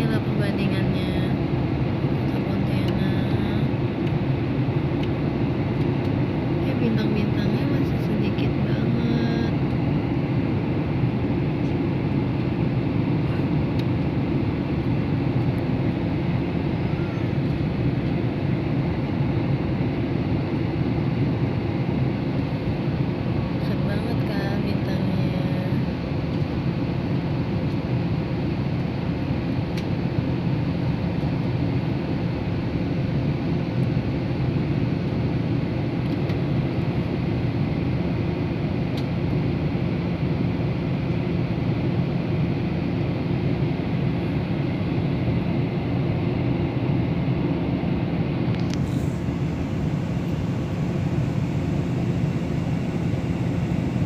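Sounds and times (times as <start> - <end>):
aeroplane cabin engine rush: 0.0 - 54.0.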